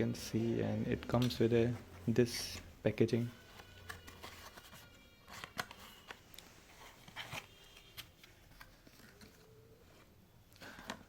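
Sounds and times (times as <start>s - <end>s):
cable packaging rustling and clicking: 1.1s - 11.0s.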